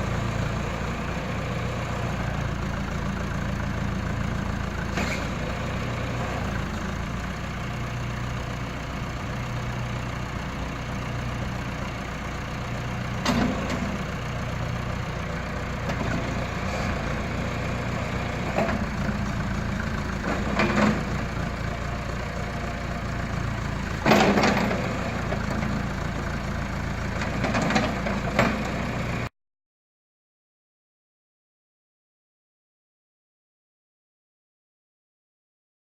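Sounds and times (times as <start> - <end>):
backhoe engine idling: 0.0 - 29.3.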